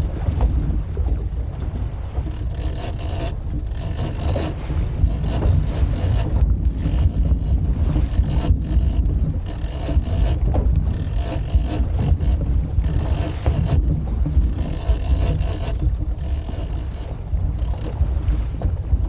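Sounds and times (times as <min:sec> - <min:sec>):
water washing past boat hull: 0:00.0 - 0:19.0
wind rumbling on microphone: 0:00.0 - 0:19.0.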